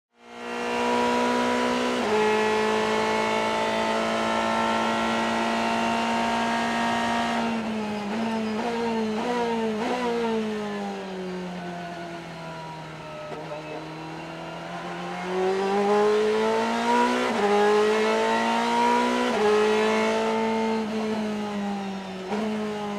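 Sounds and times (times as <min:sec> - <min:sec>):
race car engine at full throttle: 0:00.1 - 0:22.9.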